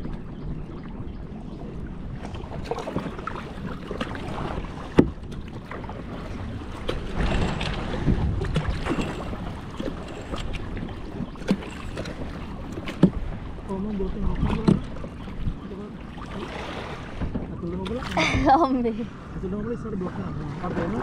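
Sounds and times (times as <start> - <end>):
paddle splashing in water: 1.6 - 18.6.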